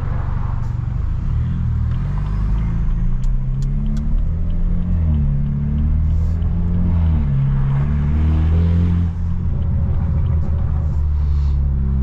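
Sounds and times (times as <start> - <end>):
turbocharged car engine accelerating: 0.0 - 12.0.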